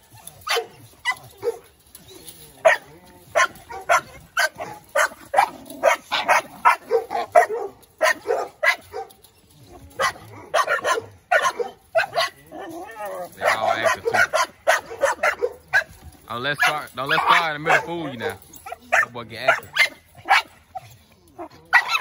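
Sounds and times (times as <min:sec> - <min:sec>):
young dogs barking and yipping: 0:00.0 - 0:22.0.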